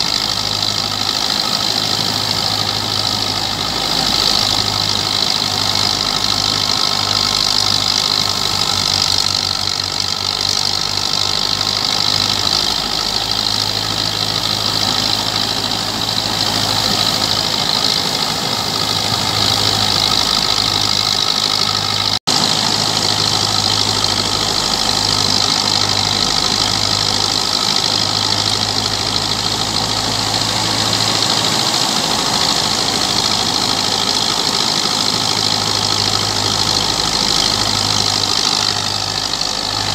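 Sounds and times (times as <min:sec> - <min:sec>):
threshing machine hiss: 0:00.0 - 0:39.9
tractor diesel engine running: 0:00.0 - 0:39.9.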